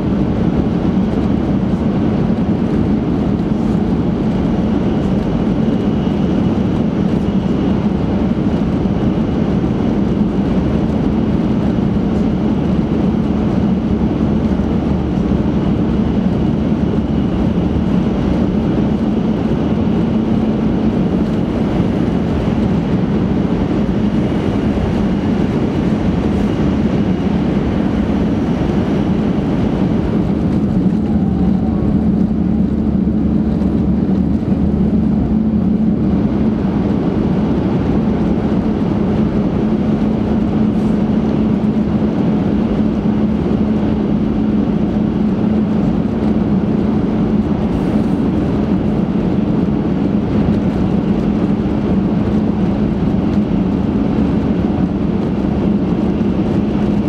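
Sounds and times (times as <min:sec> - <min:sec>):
train rumbling in tunnel: 0:00.0 - 0:57.0.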